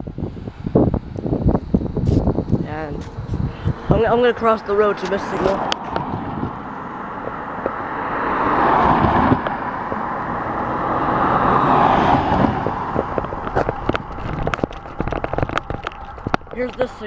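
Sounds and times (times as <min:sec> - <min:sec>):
cars driving past: 0:03.0 - 0:17.0.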